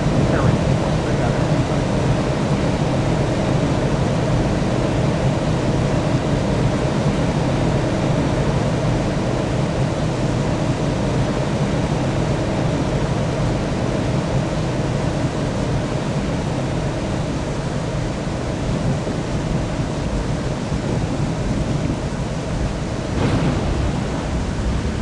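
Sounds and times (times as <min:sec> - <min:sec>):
airliner engine drone: 0:00.0 - 0:25.0.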